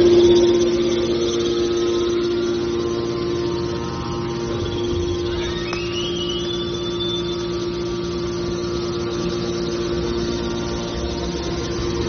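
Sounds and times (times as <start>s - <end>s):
high whine rising in pitch: 0.0s - 12.0s
hydraulic power unit humming: 0.0s - 12.0s.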